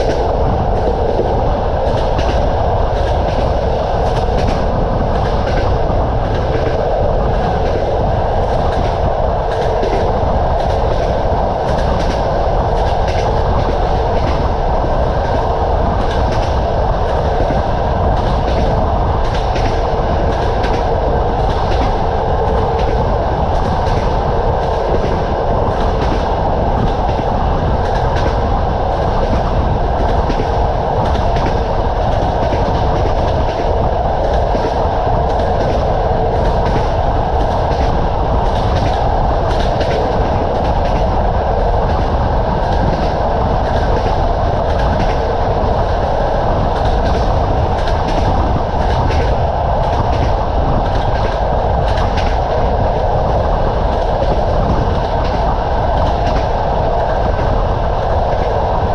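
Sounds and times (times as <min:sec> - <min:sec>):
train carriage rumbling: 0:00.0 - 0:58.9.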